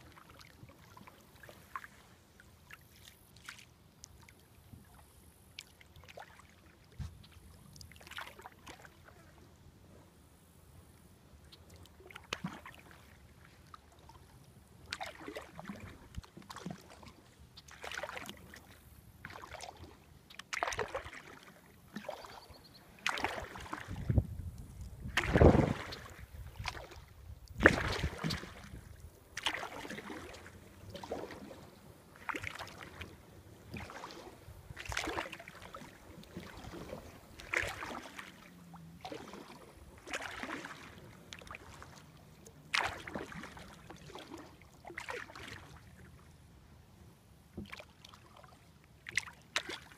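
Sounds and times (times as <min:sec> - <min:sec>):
kayak paddle strokes in water: 0:00.0 - 0:49.9.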